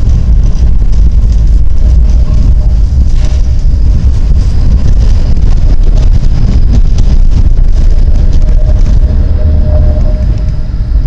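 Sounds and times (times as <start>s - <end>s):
faint steady whine: 0.0s - 11.0s
tram rumbling on track: 0.0s - 11.0s.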